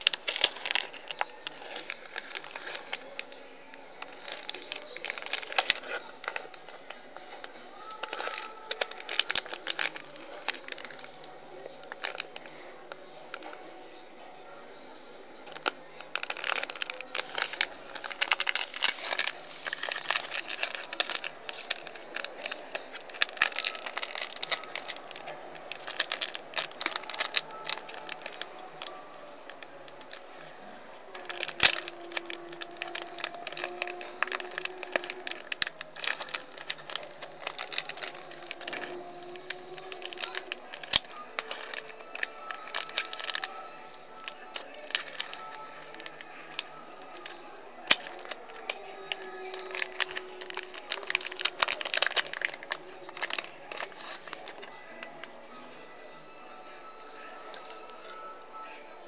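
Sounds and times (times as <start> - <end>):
sharp plastic crack: 0.0 - 13.6, 15.4 - 55.4
plastic bag crinkling and tearing: 0.0 - 13.7, 15.4 - 58.8.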